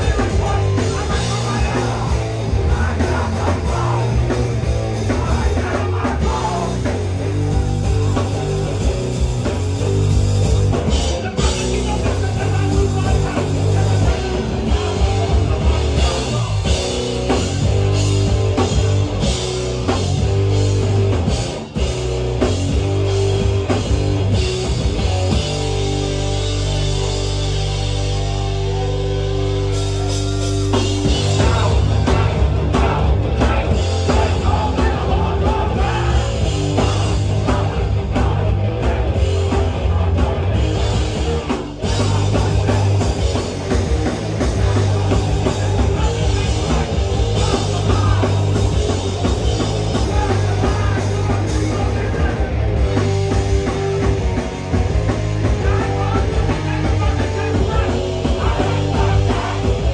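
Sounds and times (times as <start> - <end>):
punk band playing live: 0.0 - 59.9.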